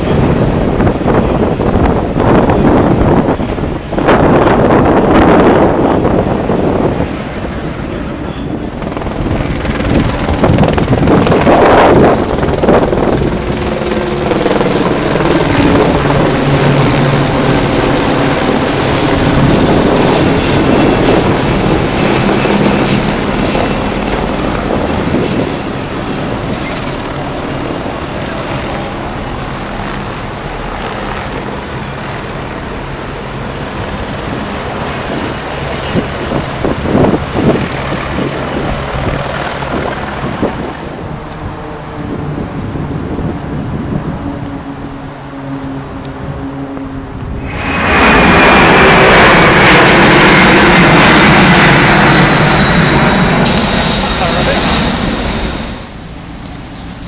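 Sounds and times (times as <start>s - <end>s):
helicopter droning overhead: 0.0s - 57.0s.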